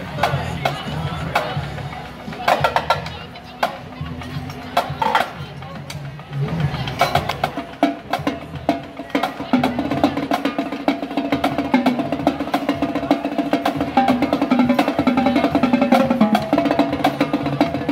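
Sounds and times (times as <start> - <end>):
marching drumline playing: 0.0 - 17.9.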